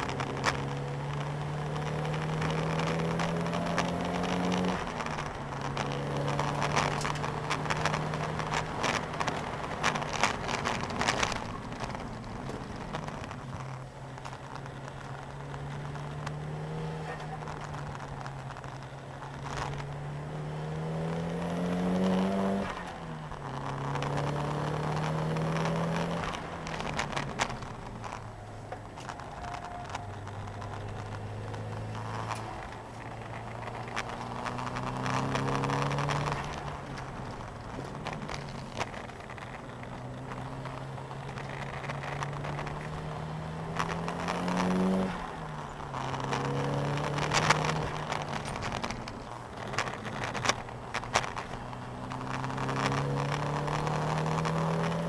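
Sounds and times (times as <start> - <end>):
clicks and rattles: 0.0 - 20.2, 21.1 - 55.0
car engine revving through gears: 0.0 - 55.0
road and wind noise: 0.0 - 55.0.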